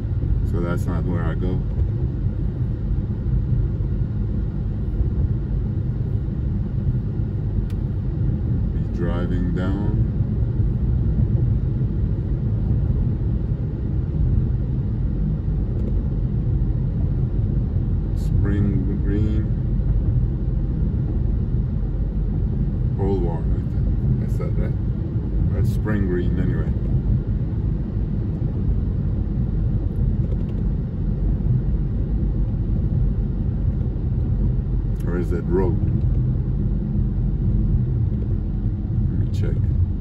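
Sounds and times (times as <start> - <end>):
car interior rumble: 0.0 - 40.0.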